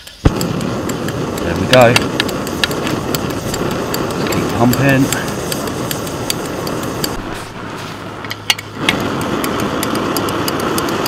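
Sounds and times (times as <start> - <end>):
pressure stove burning: 0.0 - 11.0.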